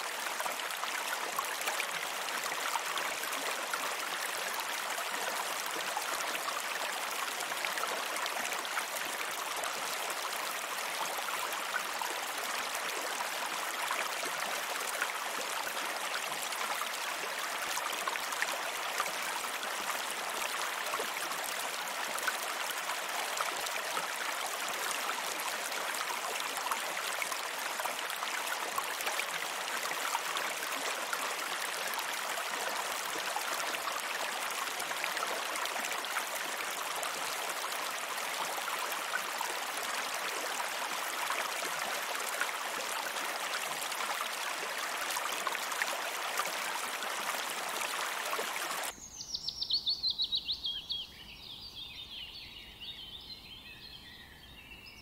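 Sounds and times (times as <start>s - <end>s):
water trickling and splashing: 0.0s - 49.0s.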